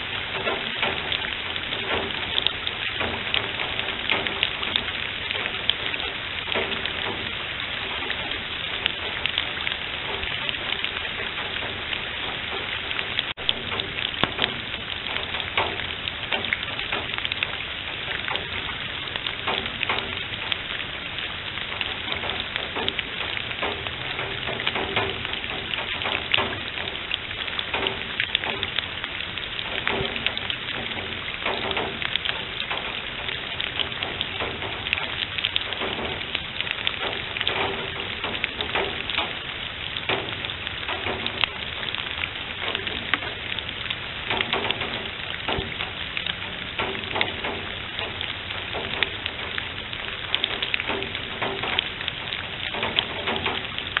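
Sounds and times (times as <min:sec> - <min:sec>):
rain on leaf litter and water: 0:00.0 - 0:54.0.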